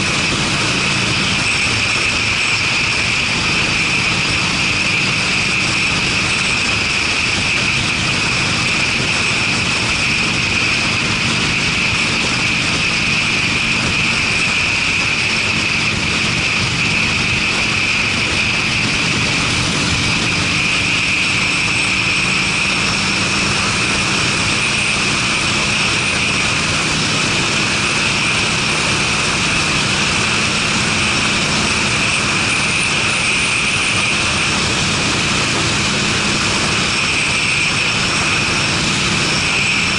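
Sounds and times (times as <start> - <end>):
motorcycle engine cruising: 0.0 - 39.9
rush of wind noise: 0.0 - 39.9.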